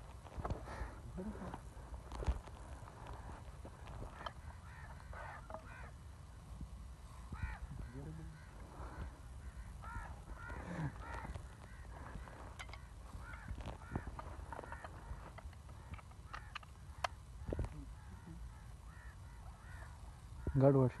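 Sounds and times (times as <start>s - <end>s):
harsh bird calls: 0.5s - 6.5s, 7.2s - 21.0s.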